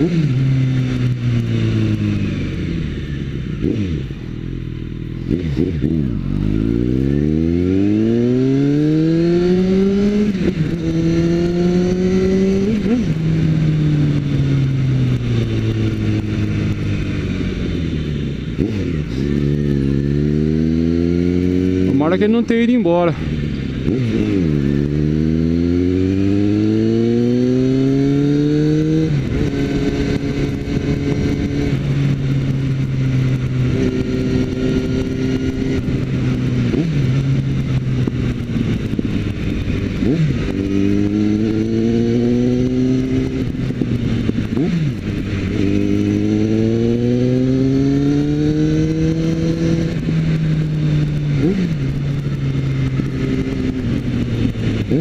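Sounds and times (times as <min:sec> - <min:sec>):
motorcycle engine revving with gear changes: 0:00.0 - 0:55.0
wind rush: 0:07.4 - 0:55.0.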